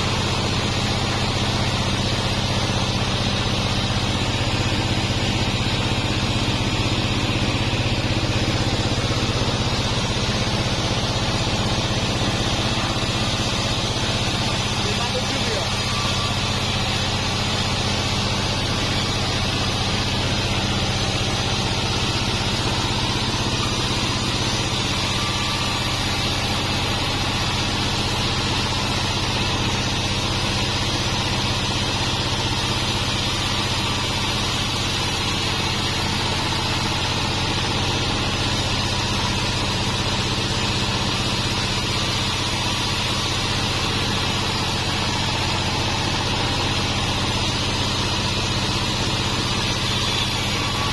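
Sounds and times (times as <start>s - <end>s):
band saw running: 0.0s - 50.9s.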